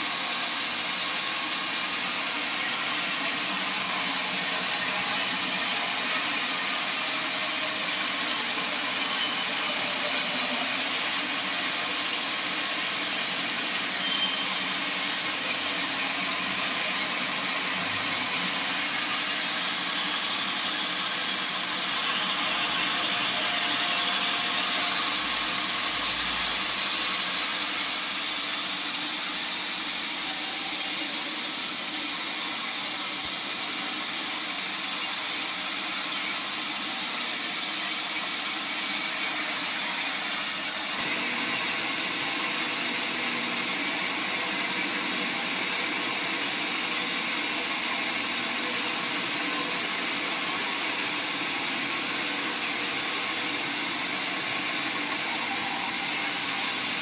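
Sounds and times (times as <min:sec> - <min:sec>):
saw running with high whine: 0:00.0 - 0:57.0.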